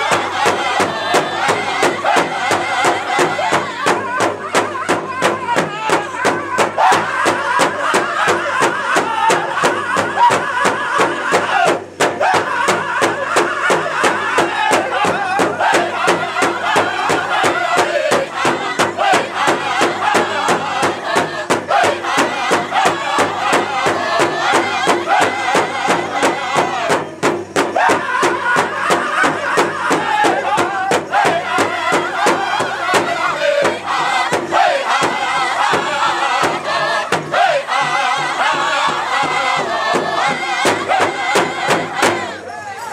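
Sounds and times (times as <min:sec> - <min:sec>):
large drum beating fast: 0:00.0 - 0:42.4
men chanting together: 0:00.0 - 0:42.6.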